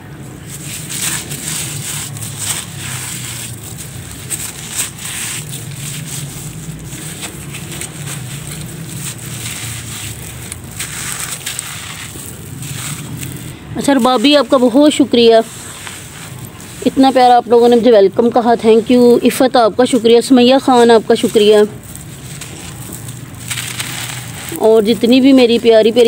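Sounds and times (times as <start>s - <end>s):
grit pouring: 0.0s - 26.0s
hands crunching gritty material: 0.0s - 26.0s.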